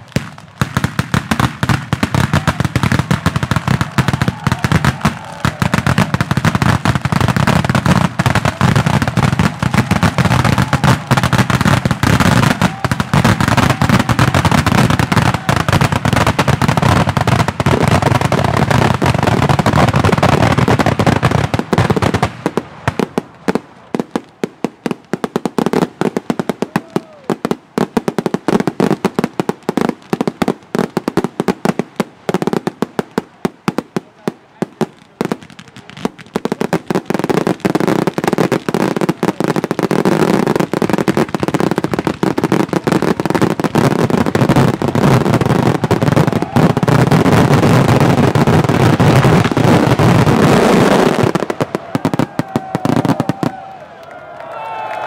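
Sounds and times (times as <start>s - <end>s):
firecrackers exploding: 0.0s - 53.8s.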